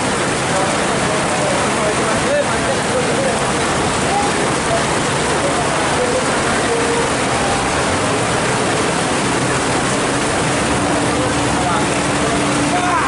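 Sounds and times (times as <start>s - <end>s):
heavy rain on a flooded road: 0.0s - 13.0s.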